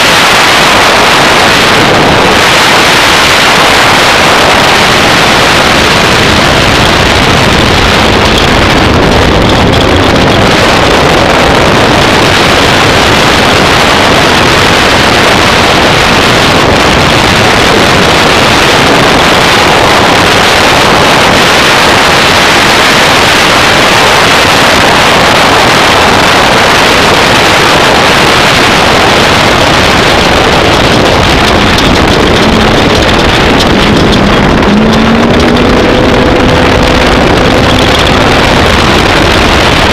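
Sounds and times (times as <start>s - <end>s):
off-road vehicle engine roar: 0.0s - 39.9s.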